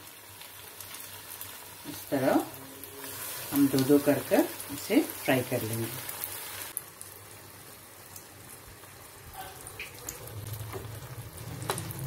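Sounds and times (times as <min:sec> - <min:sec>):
deep-frying sizzle in oil: 0:00.0 - 0:12.0.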